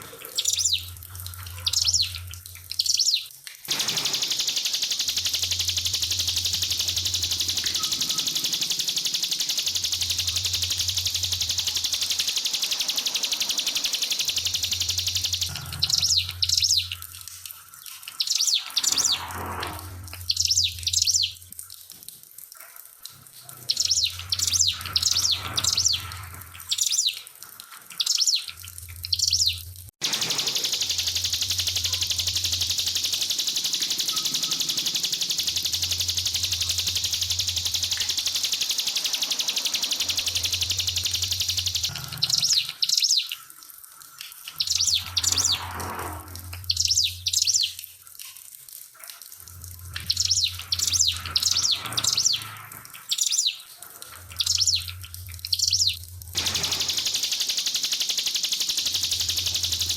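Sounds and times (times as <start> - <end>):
trickling water: 0.0 - 59.9
bird singing high chirping phrases: 0.3 - 17.1, 18.1 - 19.3, 20.2 - 21.4, 23.6 - 27.2, 28.0 - 43.4, 44.5 - 45.7, 46.7 - 47.8, 50.0 - 52.5, 53.1 - 53.7, 54.3 - 59.9.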